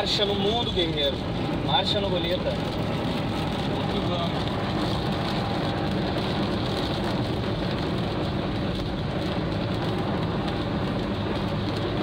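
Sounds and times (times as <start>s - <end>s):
car engine running: 0.0s - 12.0s
tyres on wet road: 0.0s - 12.0s.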